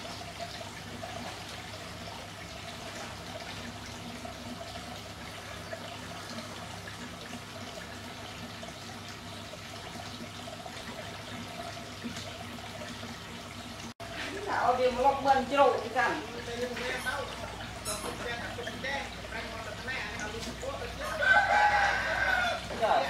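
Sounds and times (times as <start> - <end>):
running water trickling: 0.0 - 23.0.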